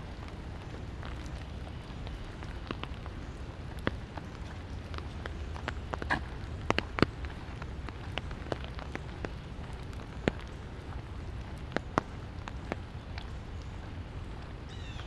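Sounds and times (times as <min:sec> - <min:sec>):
light rain falling: 0:00.0 - 0:15.0
sharp raindrop taps: 0:00.0 - 0:15.0.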